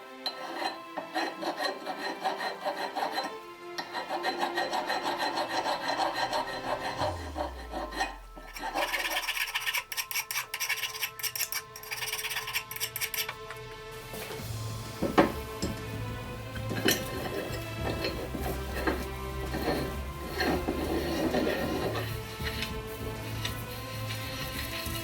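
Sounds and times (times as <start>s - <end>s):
abrasive tool rasping on metal: 0.2s - 13.5s, 15.0s - 25.0s.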